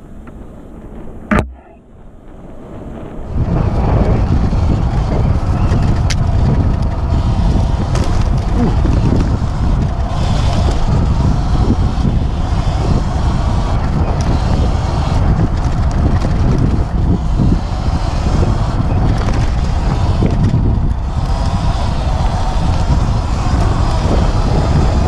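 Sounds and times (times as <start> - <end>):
wind buffeting microphone: 0.8 - 25.0
bike knocking and rattling: 3.4 - 25.0.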